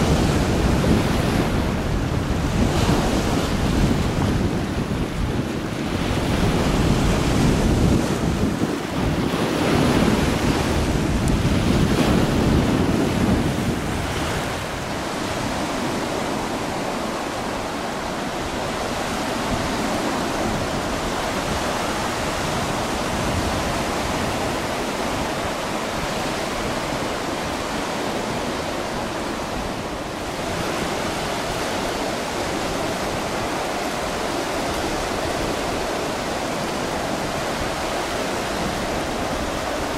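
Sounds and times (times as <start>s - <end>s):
surf washing onto beach: 0.0s - 39.9s
wind buffeting microphone: 0.0s - 39.9s.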